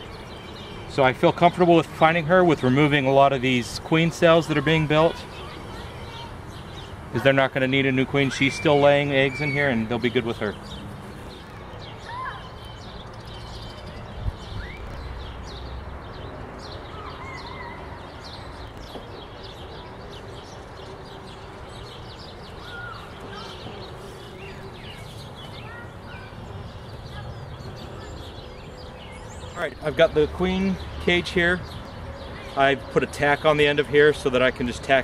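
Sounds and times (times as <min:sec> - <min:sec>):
songbirds chirping and calling: 0:00.0 - 0:35.0.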